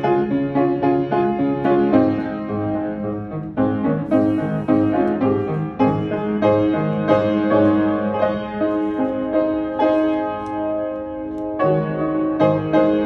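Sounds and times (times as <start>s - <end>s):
slow upright piano piece: 0.0s - 13.0s.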